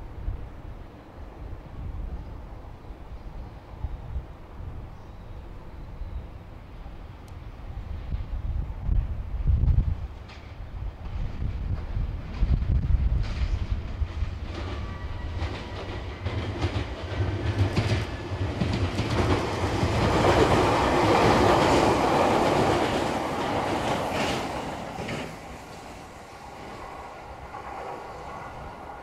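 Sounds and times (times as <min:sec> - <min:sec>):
train passing: 0:00.0 - 0:29.0.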